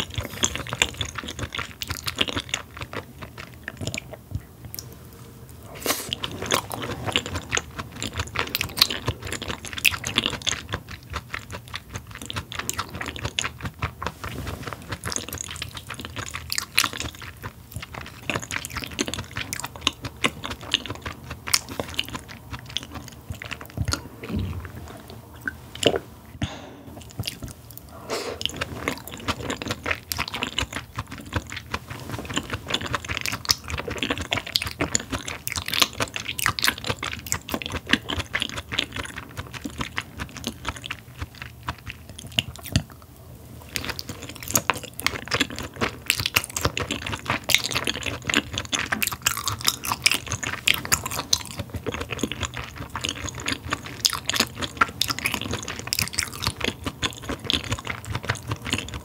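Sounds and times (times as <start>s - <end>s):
wet chewing clicks and smacks: 0.0s - 4.9s, 6.1s - 26.1s, 27.0s - 43.1s, 43.7s - 59.0s.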